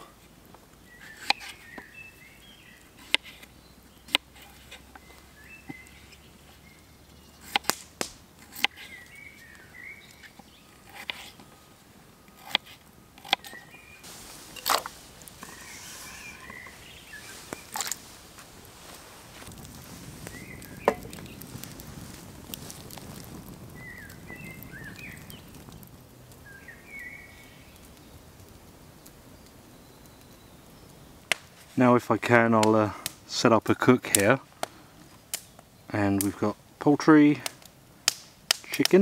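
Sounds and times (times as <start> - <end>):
birds chirping: 0.0 - 32.6.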